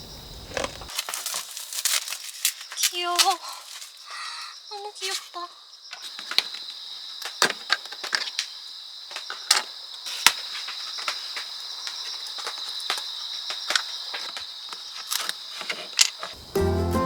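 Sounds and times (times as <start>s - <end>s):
crickets trilling: 0.0s - 16.8s.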